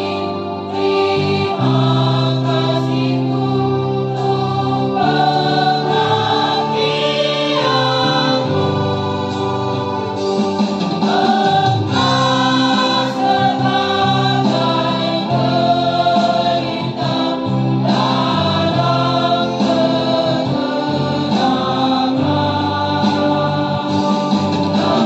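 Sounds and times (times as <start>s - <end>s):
choir singing held notes: 0.0s - 25.0s.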